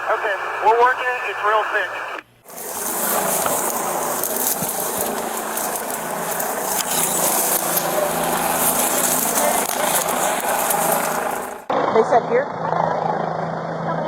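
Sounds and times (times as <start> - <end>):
radio hiss: 0.0 - 11.7
helicopter engine and rotor drone: 0.0 - 14.0.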